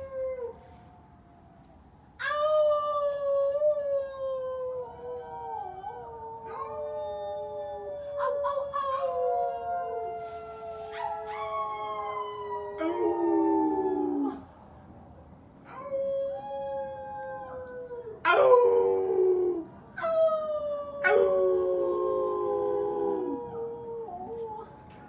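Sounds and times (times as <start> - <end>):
people howling like wolves: 2.3 - 14.6, 15.7 - 25.0.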